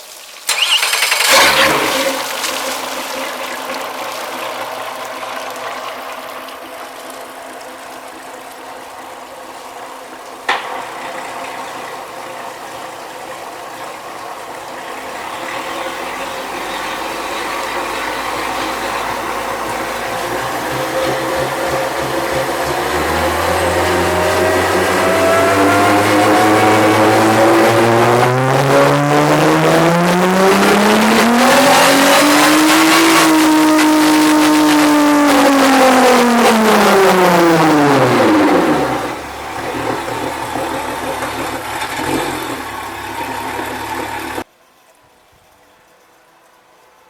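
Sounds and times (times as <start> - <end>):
outboard motor running: 0.5 - 44.4.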